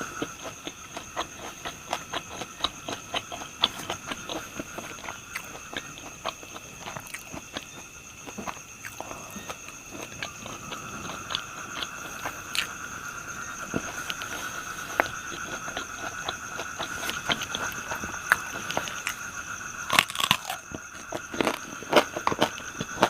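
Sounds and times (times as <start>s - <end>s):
crunchy chewing: 0.0s - 23.0s
insect trill: 0.0s - 23.0s.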